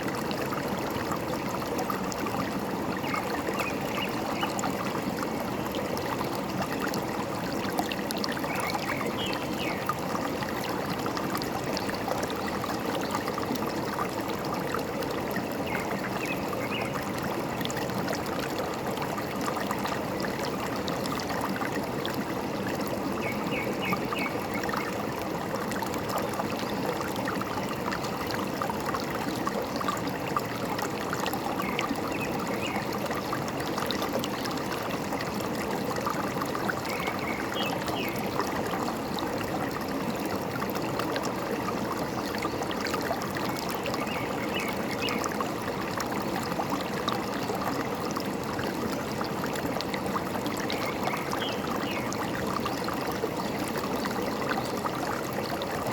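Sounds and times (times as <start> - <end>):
stream running over stones: 0.0 - 55.9.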